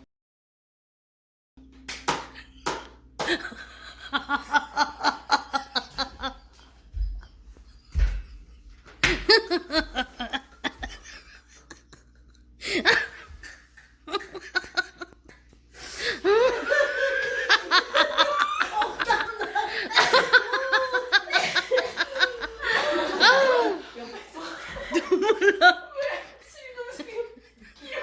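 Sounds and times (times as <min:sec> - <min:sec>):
people laughing: 0:03.2 - 0:28.0.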